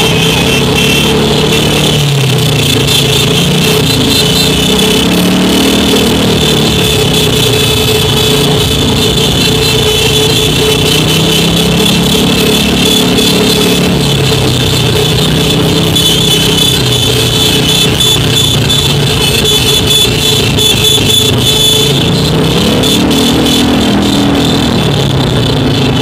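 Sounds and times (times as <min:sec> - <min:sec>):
motorcycle and scooter engines: 0:00.0 - 0:26.0.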